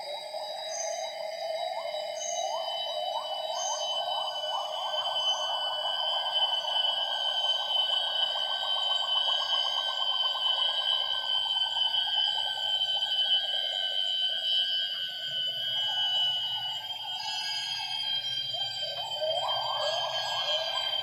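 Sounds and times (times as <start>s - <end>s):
insects high-pitched tones: 0.0s - 21.0s.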